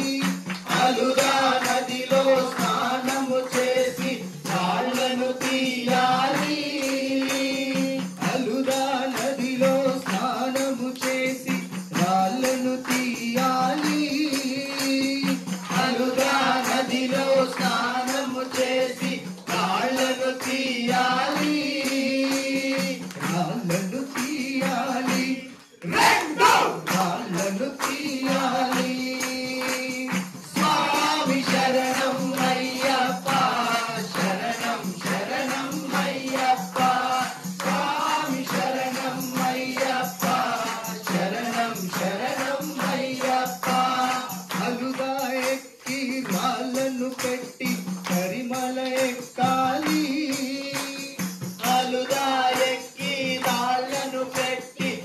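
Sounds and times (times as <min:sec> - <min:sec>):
devotional singing: 0:00.0 - 0:55.0
tambourine jingling: 0:00.0 - 0:55.0.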